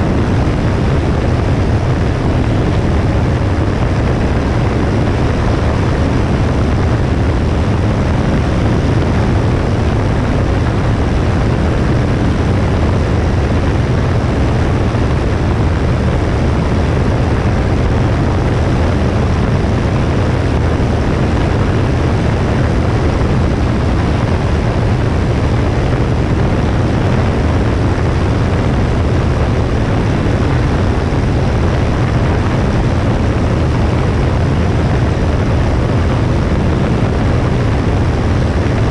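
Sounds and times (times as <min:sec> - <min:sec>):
propeller plane engine drone: 0:00.0 - 0:38.9.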